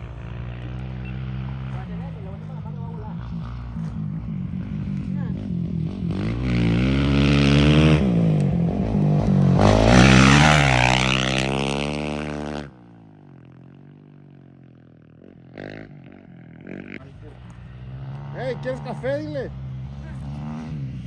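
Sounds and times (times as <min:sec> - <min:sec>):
motorcycle engine revving past: 0:00.0 - 0:21.0.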